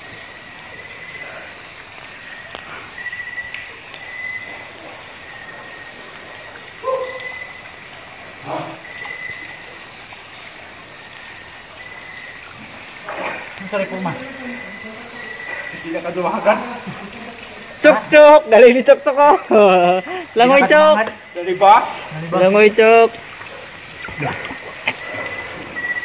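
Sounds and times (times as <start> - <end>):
faint river water: 0.0 - 26.0
frog calls: 0.0 - 26.0
insects trilling: 0.0 - 26.0.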